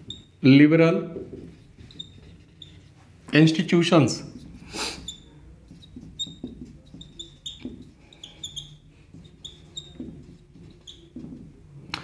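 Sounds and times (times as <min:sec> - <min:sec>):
marker squeaking on whiteboard: 0:00.0 - 0:00.4, 0:01.1 - 0:03.1, 0:04.2 - 0:11.8.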